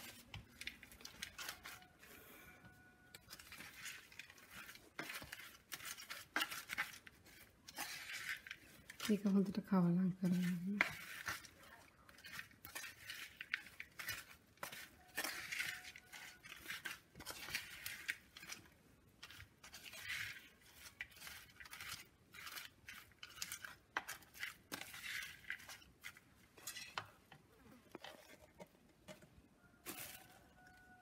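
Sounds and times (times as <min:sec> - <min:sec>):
spoon scraping clay pot: 0:00.0 - 0:30.9.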